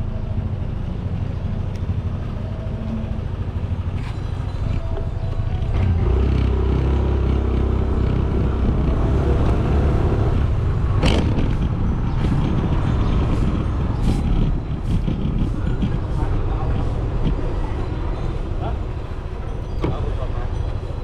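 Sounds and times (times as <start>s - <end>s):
road and wind rumble: 0.0s - 21.0s
motorcycle engine: 0.1s - 19.8s.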